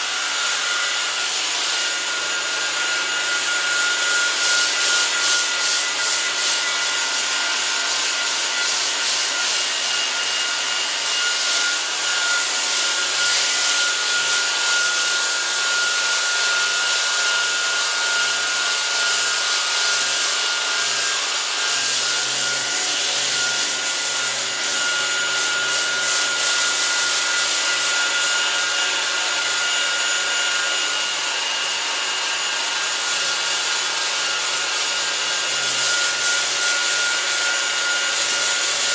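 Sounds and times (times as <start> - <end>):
power sander grinding metal: 0.0 - 38.9.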